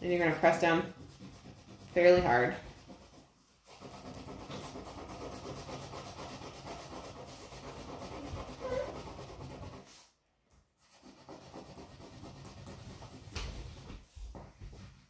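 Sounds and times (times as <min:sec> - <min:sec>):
crayon rubbing on paper: 0:00.0 - 0:10.1, 0:10.8 - 0:13.9.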